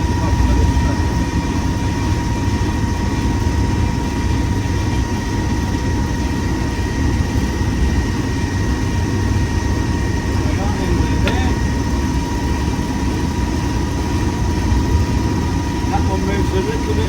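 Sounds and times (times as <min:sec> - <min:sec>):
diesel locomotive engine rumble: 0:00.0 - 0:17.0
faint high whine: 0:00.0 - 0:17.0.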